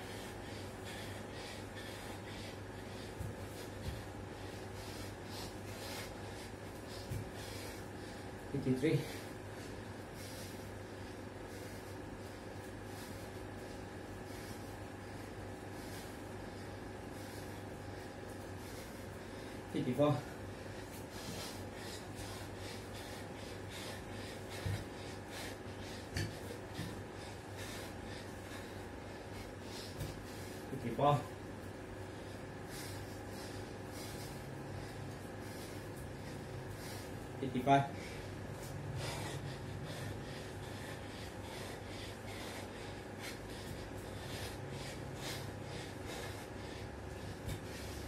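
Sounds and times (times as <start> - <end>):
man breathing sharply: 0.0 - 48.0
steady low hum: 0.0 - 48.0.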